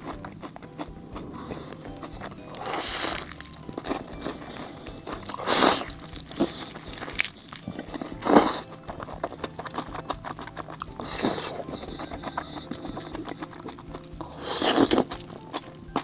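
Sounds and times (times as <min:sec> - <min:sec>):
chewing crackles: 0:00.0 - 0:16.0
crunching bites of fried food: 0:00.0 - 0:16.0.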